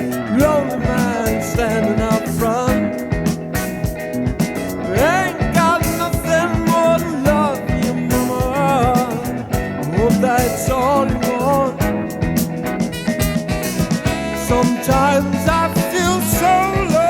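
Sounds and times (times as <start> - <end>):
sliding lead melody with vibrato: 0.0 - 17.0
soul-pop band playing: 0.0 - 17.0.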